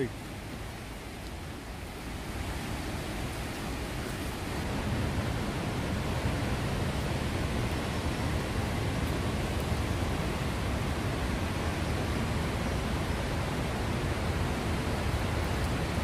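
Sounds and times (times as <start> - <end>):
fast-flowing river rushing: 0.0 - 16.0.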